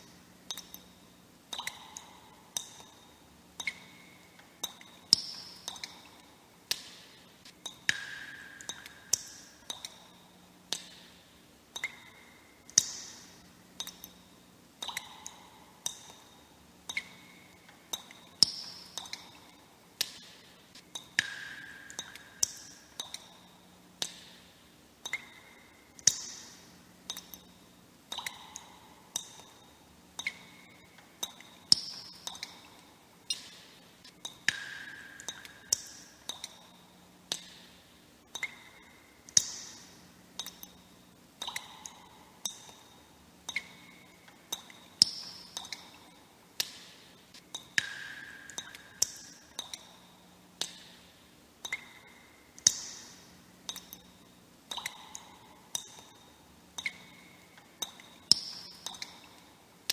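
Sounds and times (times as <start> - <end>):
water droplets dripping: 0.0 - 0.9, 1.5 - 59.9.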